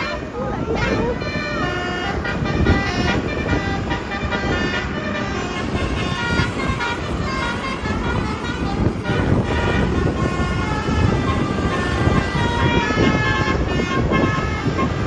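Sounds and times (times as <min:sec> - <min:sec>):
engine and traffic rumble: 0:00.0 - 0:15.0
musical air horn playing high notes: 0:00.0 - 0:15.0.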